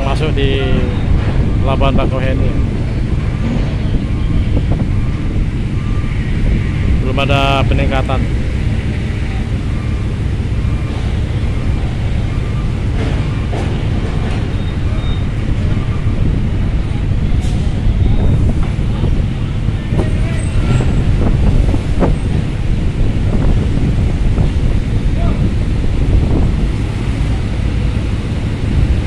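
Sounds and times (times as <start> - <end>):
vehicle engines rumbling: 0.0 - 29.0.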